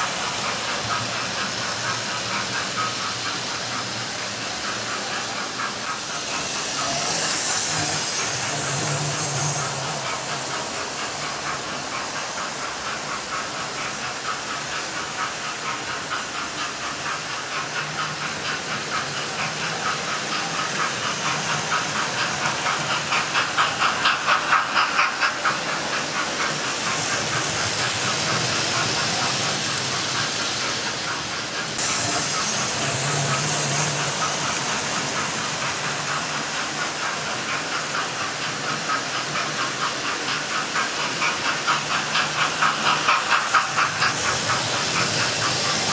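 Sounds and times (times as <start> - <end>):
high steam hiss: 0.0 - 45.9
model steam locomotive chuffing: 0.0 - 45.9
model trains rumbling on track: 0.0 - 45.9.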